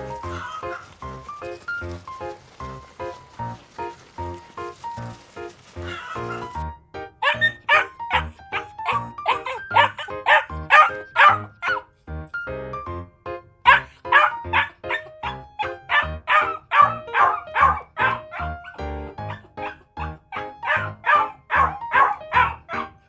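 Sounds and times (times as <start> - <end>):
dog barking: 0.0 - 6.6, 7.2 - 11.9, 13.6 - 23.0.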